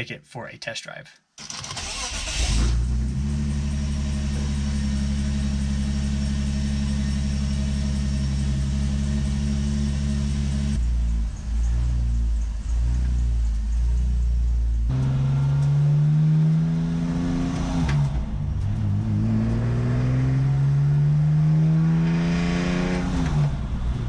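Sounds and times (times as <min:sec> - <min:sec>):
car engine cranking and idling: 0:01.4 - 0:24.0.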